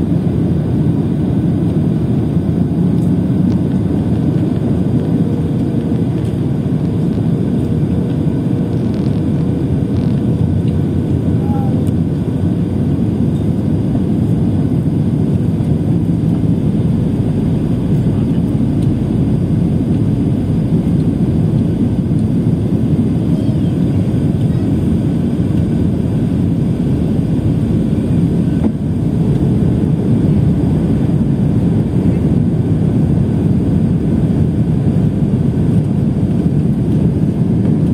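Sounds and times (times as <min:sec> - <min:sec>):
airliner engines and airflow: 0:00.0 - 0:37.9.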